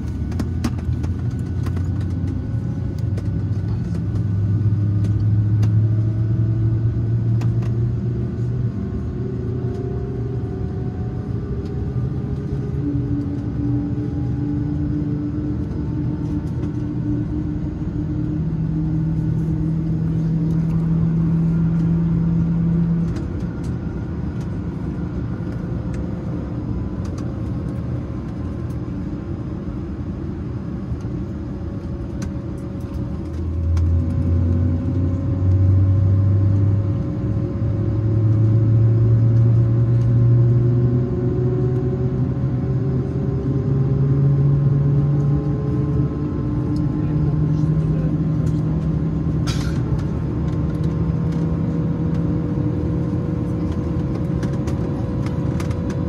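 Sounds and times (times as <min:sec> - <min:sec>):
aircraft cabin rumble and hum: 0:00.0 - 0:56.0
strong low hum: 0:00.0 - 0:56.0.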